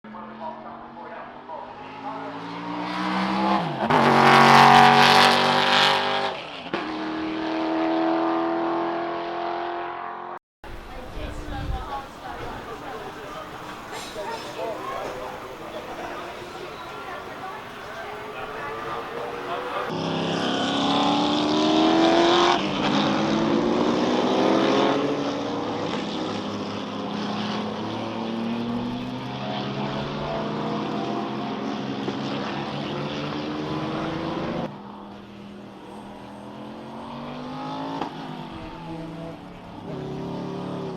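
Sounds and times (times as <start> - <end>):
racing car engine at high revs: 0.1 - 10.4, 14.6 - 40.9.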